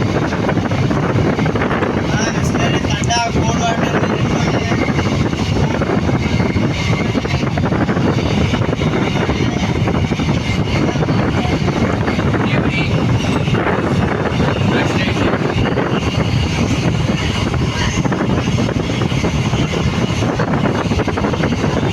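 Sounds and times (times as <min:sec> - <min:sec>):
moving vehicle rumble: 0:00.0 - 0:21.9
wind buffeting microphone: 0:00.0 - 0:21.9.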